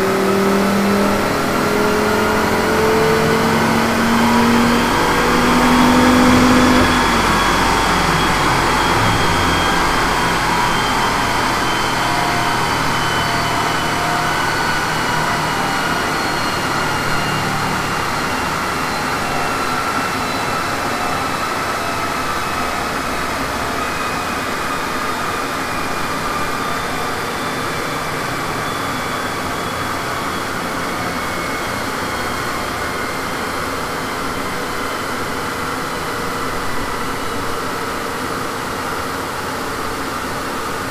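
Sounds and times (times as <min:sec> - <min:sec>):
car engine: 0:00.0 - 0:34.5
falling whine: 0:00.0 - 0:40.9.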